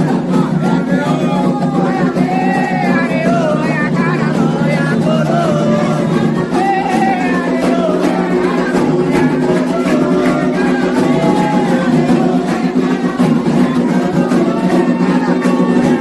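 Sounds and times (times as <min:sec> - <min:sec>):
repeated percussion strikes: 0:00.0 - 0:16.0
voices singing: 0:00.0 - 0:16.0.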